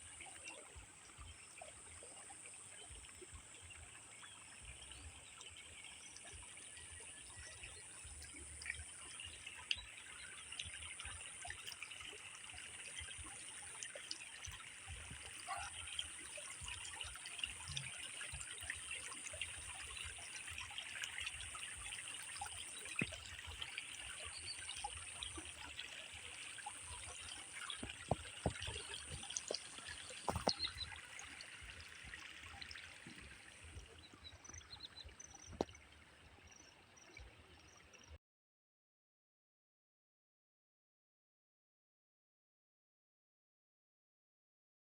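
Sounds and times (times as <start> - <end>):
small water splashes: 0.0 - 38.2
water trickling: 0.0 - 38.2.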